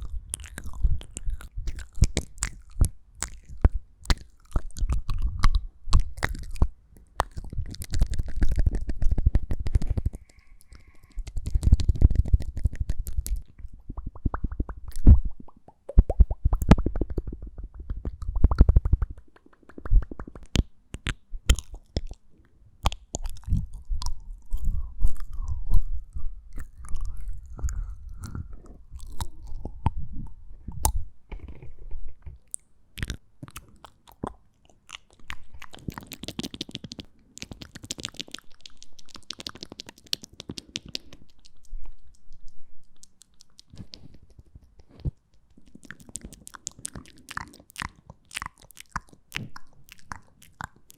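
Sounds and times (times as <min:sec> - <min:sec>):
lip smacks: 0:00.0 - 0:22.2, 0:22.8 - 0:31.6, 0:32.2 - 0:50.9
tongue pops: 0:00.0 - 0:22.2, 0:22.8 - 0:31.6, 0:32.2 - 0:50.9
wet mouth clicks: 0:00.0 - 0:50.9.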